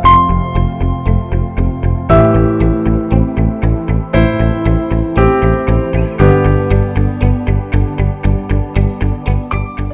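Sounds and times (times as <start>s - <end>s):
background music with steady beat: 0.0s - 9.9s.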